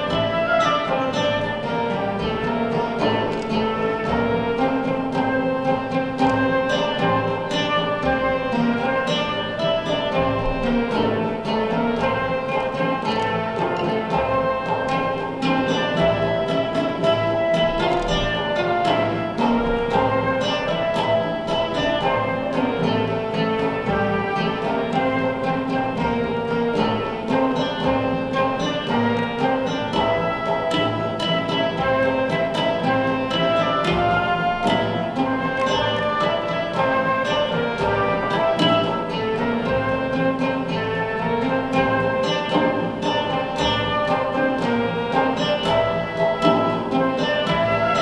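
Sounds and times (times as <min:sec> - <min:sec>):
flute melody: 0:00.0 - 0:48.0
frame drums beating: 0:00.0 - 0:48.0
plucked lute: 0:00.0 - 0:48.0.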